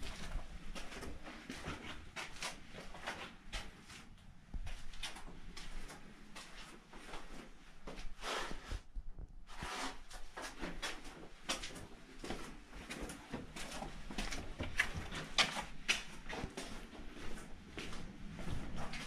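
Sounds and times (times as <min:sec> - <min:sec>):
footsteps on concrete floor: 0:00.0 - 0:19.0.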